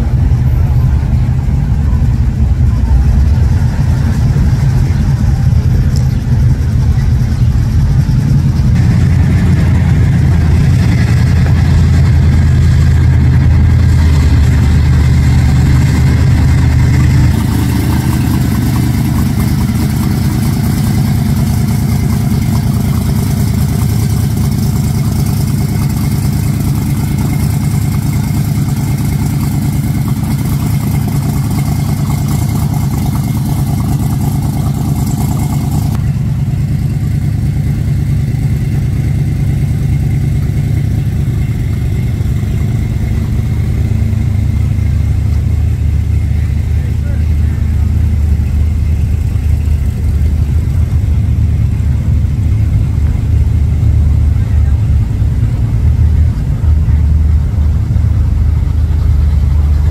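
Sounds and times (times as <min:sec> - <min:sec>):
car engines rumbling past: 0:00.0 - 0:59.9
supercharged engine running with hiss: 0:00.0 - 0:59.9.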